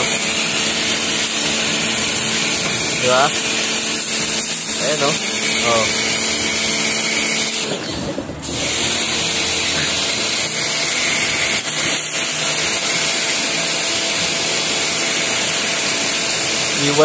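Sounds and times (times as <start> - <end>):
pump motor hum: 0.0 - 17.0
water jet hissing on tiles: 0.0 - 17.0.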